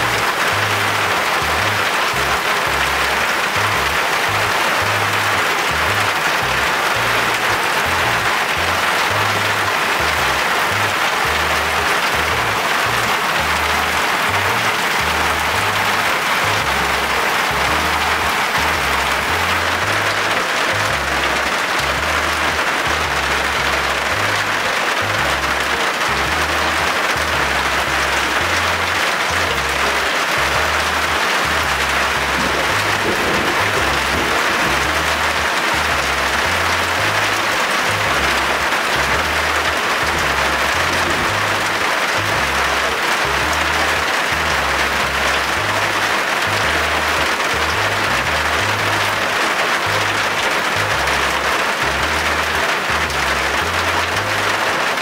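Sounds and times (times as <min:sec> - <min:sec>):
background music with bass line: 0:00.0 - 0:55.0
heavy rain hissing: 0:00.0 - 0:55.0.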